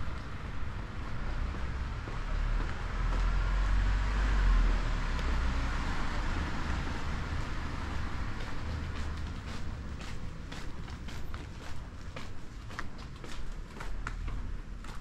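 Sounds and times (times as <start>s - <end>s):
vehicle passing: 0.0s - 12.4s
traffic hum: 0.0s - 15.0s.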